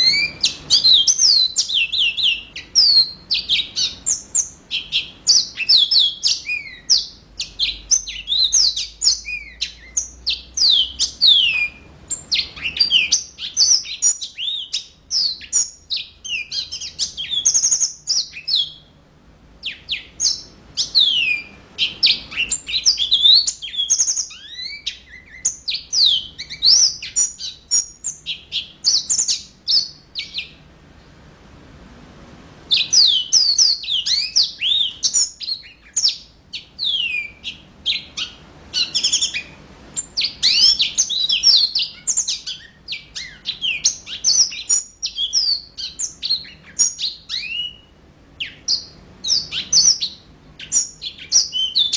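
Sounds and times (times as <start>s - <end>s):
canary singing: 0.0s - 31.2s, 32.6s - 51.9s.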